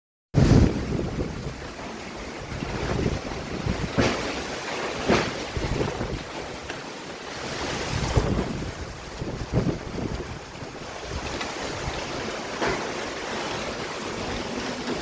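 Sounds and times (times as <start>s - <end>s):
storm wind gusting: 0.4s - 6.7s, 7.4s - 15.0s
wind buffeting microphone: 0.4s - 6.8s, 7.4s - 15.0s.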